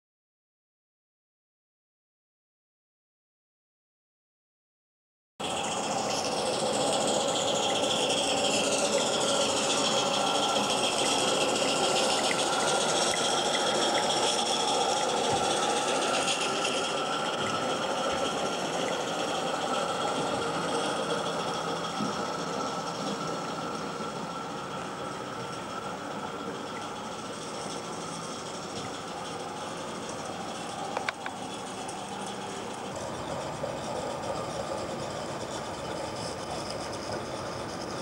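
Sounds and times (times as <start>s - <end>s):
high falling whine: 5.4s - 38.0s
steam locomotive hiss and rumble: 5.4s - 38.0s.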